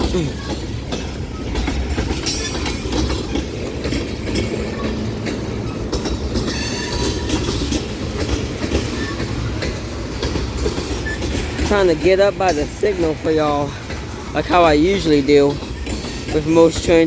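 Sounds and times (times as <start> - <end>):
train wheel squeal: 0.0 - 17.0
train wheels rumbling on rail: 0.0 - 17.0
wheels clicking over rail joints: 0.0 - 17.0.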